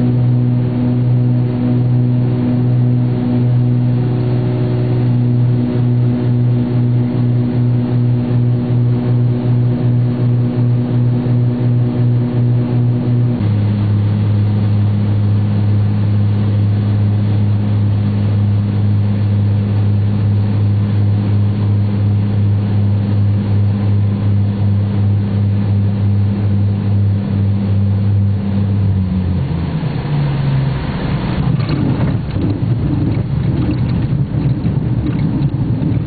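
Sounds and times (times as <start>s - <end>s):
propeller plane drone: 0.0s - 36.0s.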